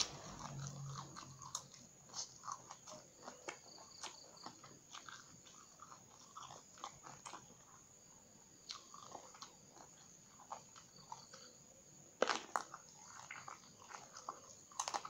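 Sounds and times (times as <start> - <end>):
person chewing raw eggplant: 0.0 - 15.0.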